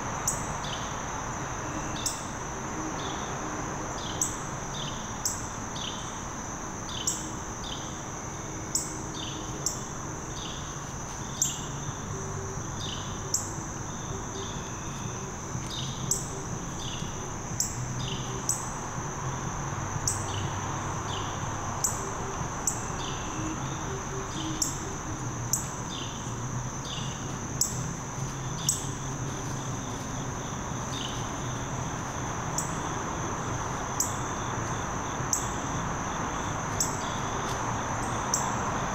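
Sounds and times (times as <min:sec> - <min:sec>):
crickets droning: 0:00.0 - 0:38.9.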